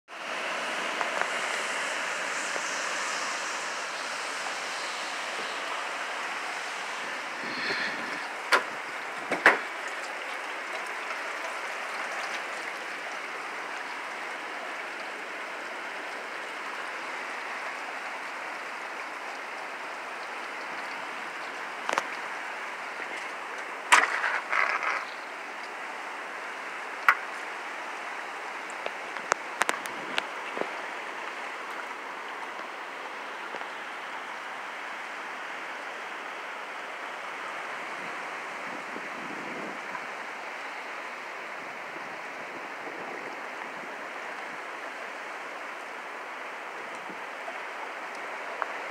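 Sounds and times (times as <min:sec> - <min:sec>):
hurricane wind and rain: 0:00.1 - 0:48.9.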